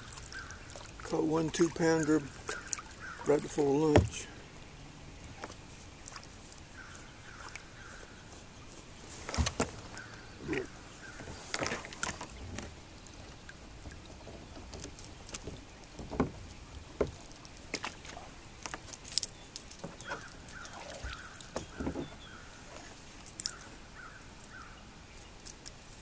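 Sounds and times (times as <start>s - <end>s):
water drips: 0.0s - 4.7s, 5.3s - 8.1s, 10.0s - 23.7s
kayak paddle splashing: 0.0s - 24.8s.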